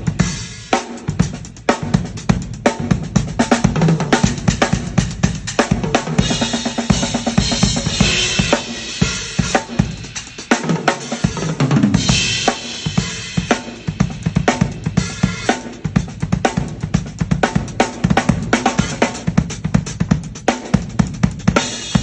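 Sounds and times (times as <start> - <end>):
fast drum kit playing: 0.0 - 22.0.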